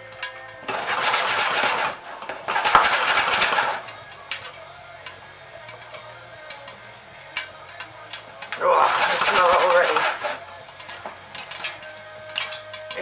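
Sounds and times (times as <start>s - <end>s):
popcorn rattling in a pot: 0.0s - 6.5s, 7.3s - 13.0s
kernels popping: 0.0s - 13.0s.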